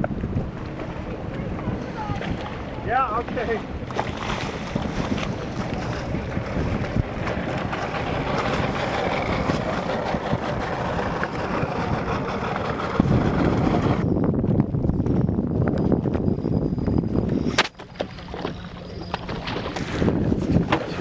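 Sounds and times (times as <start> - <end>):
deep rumble: 0.0 - 21.0
water and boat noise: 0.0 - 21.0
wind buffeting microphone: 0.0 - 21.0.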